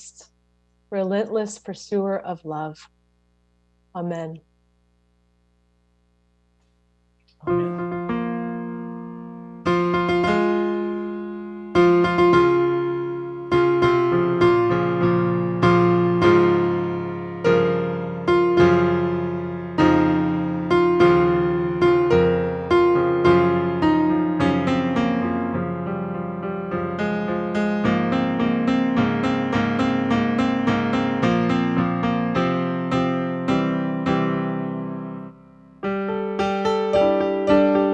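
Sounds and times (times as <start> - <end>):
slow piano chords: 7.4 - 37.9.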